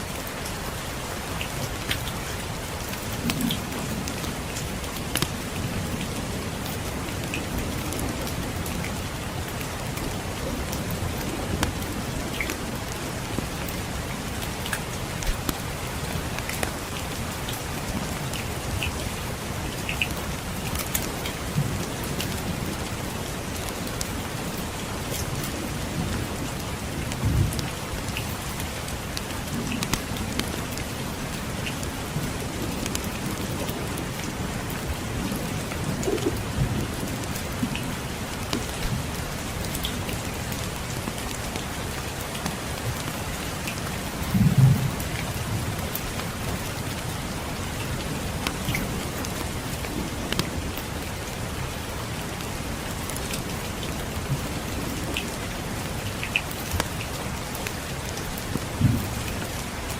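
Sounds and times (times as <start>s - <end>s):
rain hissing: 0.0s - 59.9s.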